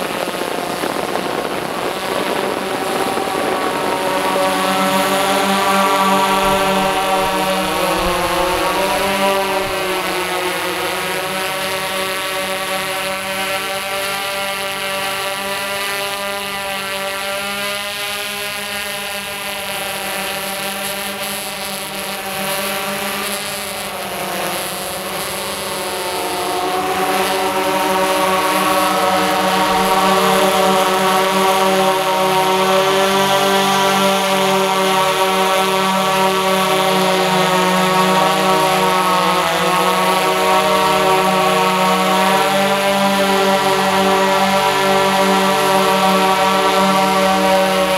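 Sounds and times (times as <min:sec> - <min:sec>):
drone propeller buzz: 0:00.0 - 0:47.9.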